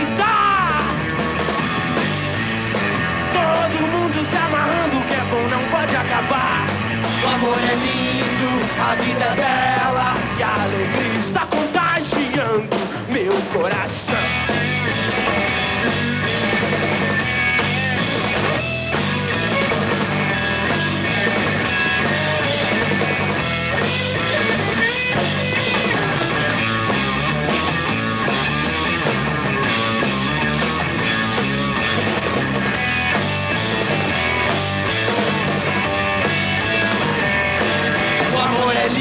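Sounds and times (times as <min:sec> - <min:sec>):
bass guitar: 0:00.0 - 0:39.0
drum kit beat: 0:00.0 - 0:39.0
electric guitar: 0:00.0 - 0:39.0.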